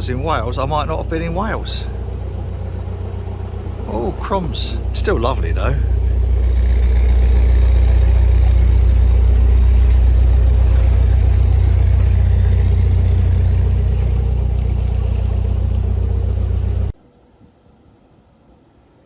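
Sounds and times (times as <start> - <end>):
boat diesel engine humming: 0.0 - 17.0.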